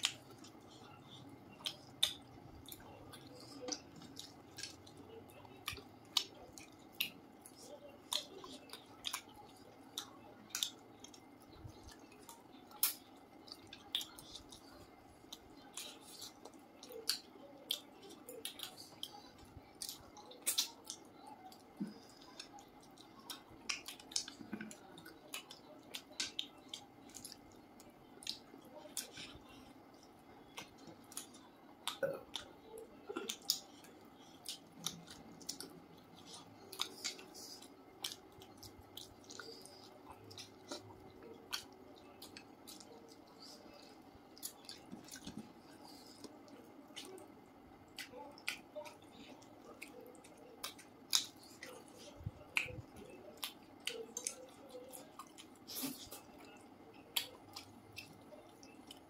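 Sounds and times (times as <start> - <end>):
people chewing and smacking lips: 0.0 - 59.0.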